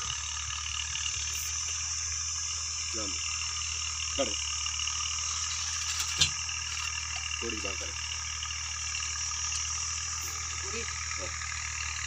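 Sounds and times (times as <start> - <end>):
insects chirring: 0.0 - 12.0
low steady hum: 0.0 - 12.0.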